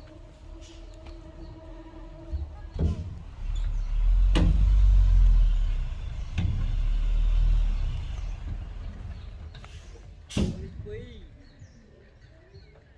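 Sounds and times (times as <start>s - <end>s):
diesel earthmoving machinery rumbling: 0.0s - 11.8s.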